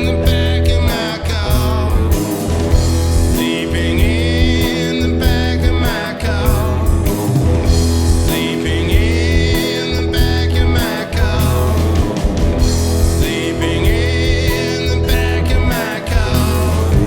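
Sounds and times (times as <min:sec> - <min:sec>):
blues band instrumental: 0:00.0 - 0:17.0
pulsing bass line: 0:00.0 - 0:17.0.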